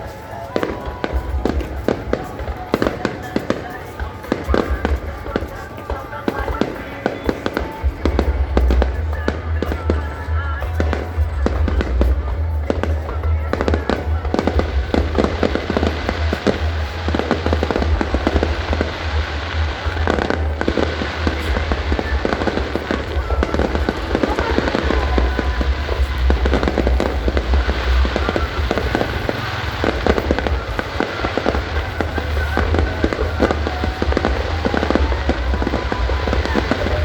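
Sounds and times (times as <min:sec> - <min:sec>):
fireworks crackling bursts: 0:00.0 - 0:37.0.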